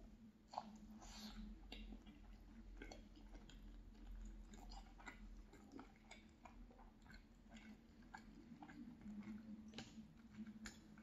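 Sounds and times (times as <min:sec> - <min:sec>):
chewing food: 0:00.0 - 0:11.0
wet mouth clicks and smacks: 0:00.5 - 0:11.0.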